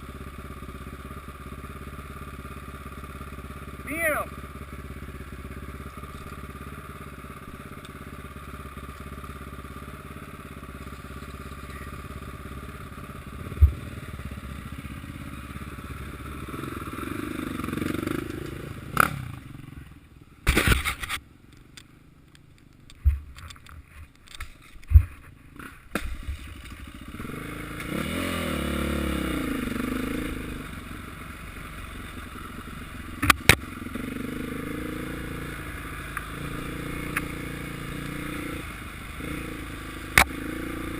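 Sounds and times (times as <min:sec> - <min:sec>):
motorcycle engines revving: 0:00.0 - 0:21.8, 0:22.9 - 0:40.9.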